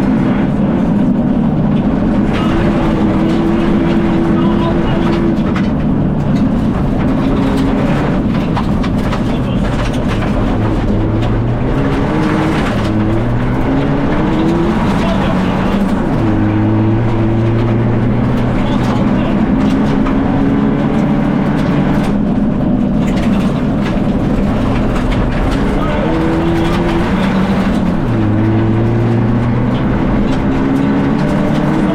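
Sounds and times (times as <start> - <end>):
car engine revving hard: 0.0 - 31.9.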